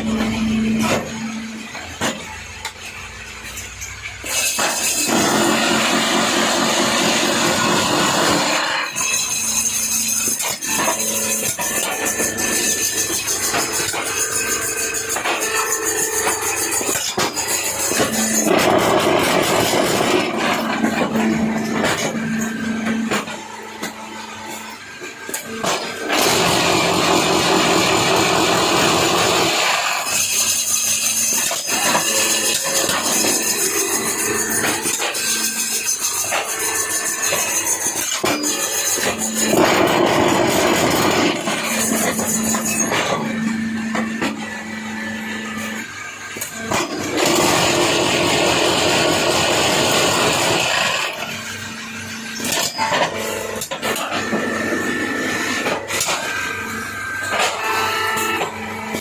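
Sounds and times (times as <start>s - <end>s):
paving block machine running: 0.0s - 59.0s.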